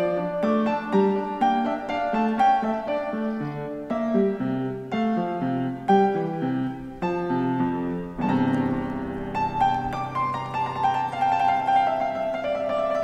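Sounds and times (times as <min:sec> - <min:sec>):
keyboard playing melody: 0:00.0 - 0:13.0.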